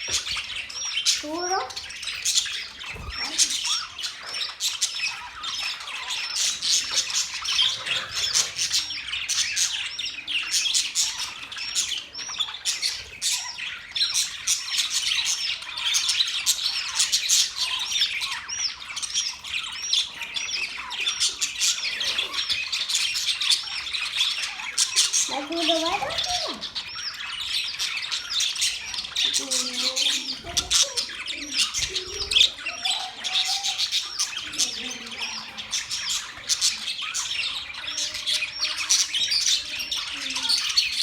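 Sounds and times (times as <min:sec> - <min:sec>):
budgerigars chattering: 0:00.0 - 0:41.0.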